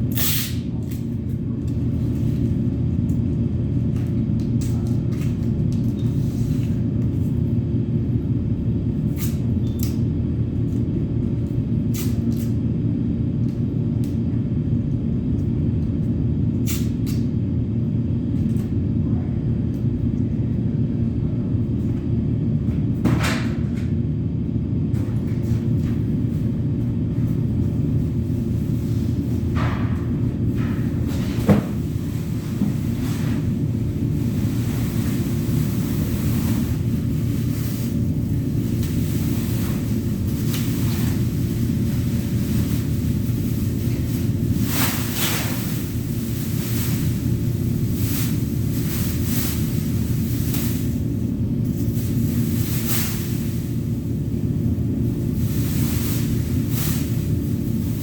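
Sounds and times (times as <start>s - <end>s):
low mechanical rumble: 0.0s - 58.0s.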